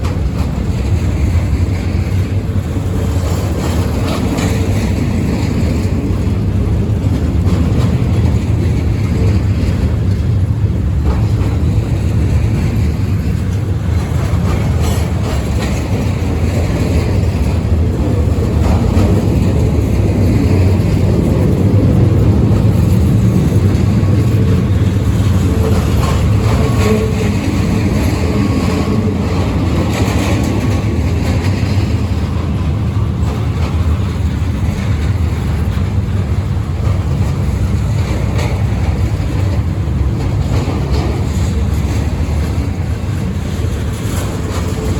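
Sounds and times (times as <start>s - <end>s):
faint knocks from train cars: 0.0s - 44.9s
freight train rumbling past: 0.0s - 44.9s.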